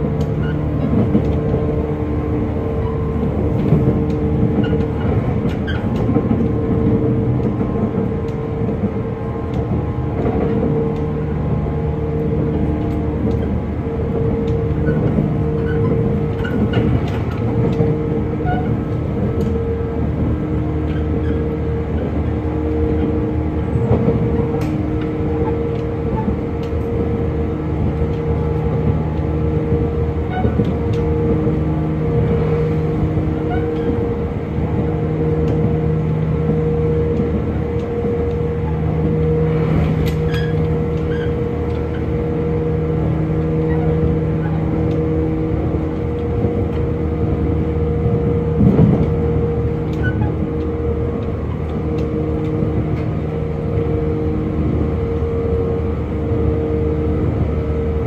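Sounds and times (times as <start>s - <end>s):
electric train motor hum: 0.0s - 58.0s
light clicks from rails: 0.0s - 58.0s
train wheels rumbling: 0.0s - 58.0s.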